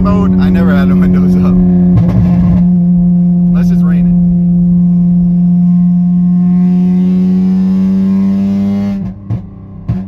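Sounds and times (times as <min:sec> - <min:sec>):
loud droning car engine: 0:00.0 - 0:10.0.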